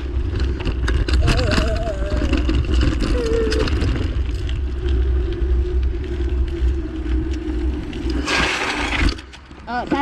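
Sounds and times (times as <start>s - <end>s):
bicycle rattling and clicking: 0.0s - 10.0s
wind buffeting microphone: 0.0s - 10.0s.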